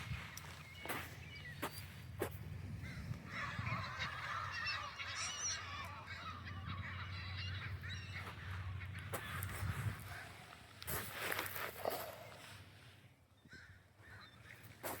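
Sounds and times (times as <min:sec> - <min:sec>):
flock of birds squabbling: 0:00.1 - 0:12.4.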